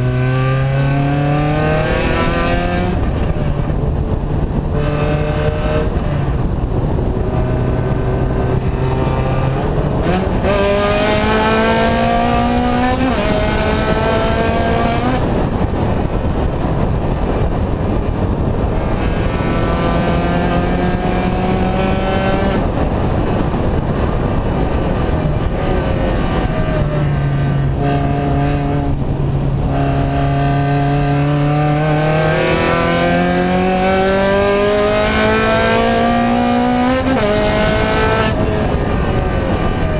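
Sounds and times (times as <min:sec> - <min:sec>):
loud engine with open exhaust: 0:00.0 - 0:39.9.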